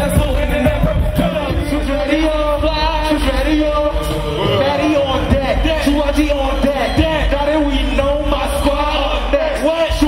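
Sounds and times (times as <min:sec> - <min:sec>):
heavy bass beat: 0:00.0 - 0:10.0
man rapping into microphone: 0:00.0 - 0:10.0.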